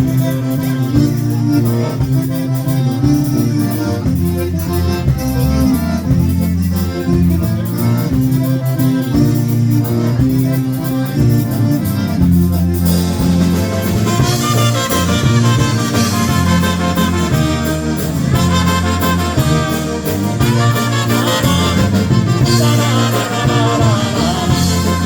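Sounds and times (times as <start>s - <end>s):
polka band with accordion: 0.0s - 25.0s.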